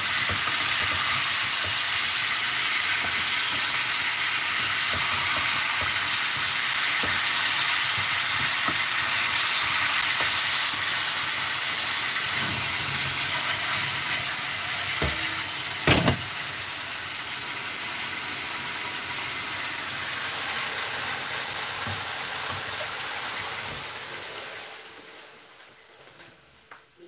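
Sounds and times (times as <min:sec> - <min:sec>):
fruit frying in a pan: 0:00.0 - 0:25.5.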